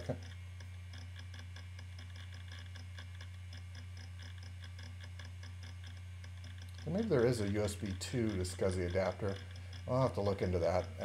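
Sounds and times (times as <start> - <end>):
disk drive humming: 0.0 - 11.0
drive heads ticking rapidly: 0.0 - 11.0.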